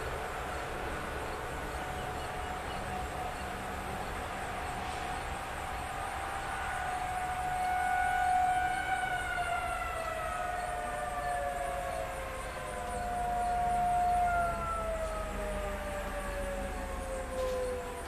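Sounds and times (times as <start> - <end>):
warning siren wailing: 1.4 - 18.0.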